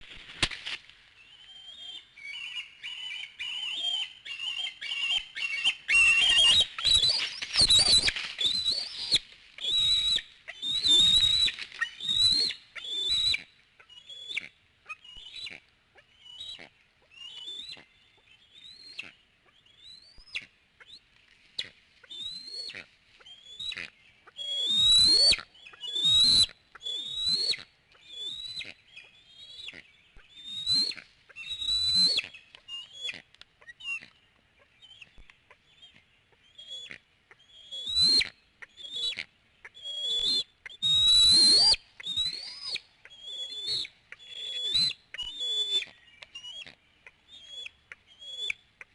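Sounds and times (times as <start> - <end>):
eaglets whistled begging calls: 1.3 - 21.0, 22.0 - 34.1, 34.8 - 48.6.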